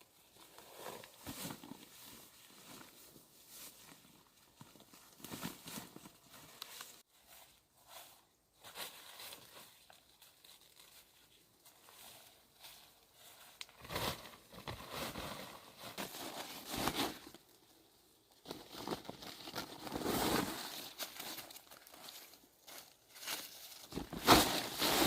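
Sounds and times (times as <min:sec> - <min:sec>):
crinkling and rustling: 0:00.0 - 0:25.0.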